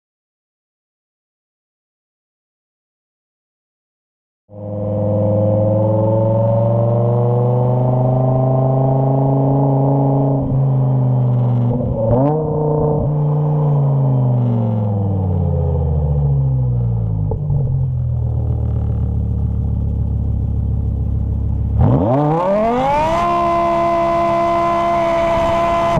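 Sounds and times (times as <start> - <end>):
car engine revving under load: 4.6 - 25.9.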